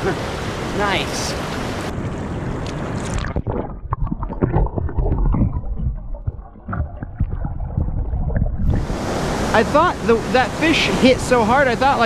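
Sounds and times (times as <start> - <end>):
muffled underwater surf churning: 0.0 - 12.0.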